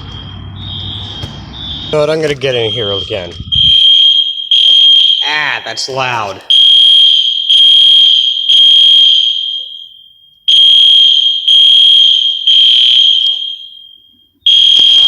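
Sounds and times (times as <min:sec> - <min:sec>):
fire alarm horn blasts: 0:00.0 - 0:15.0.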